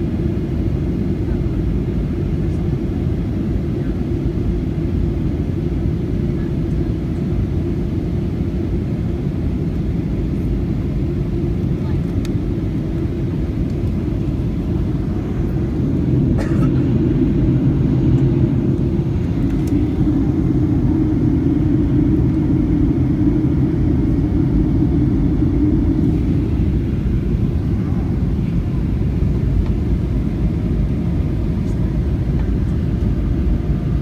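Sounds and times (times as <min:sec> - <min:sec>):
airliner cabin engine rumble: 0:00.0 - 0:34.0.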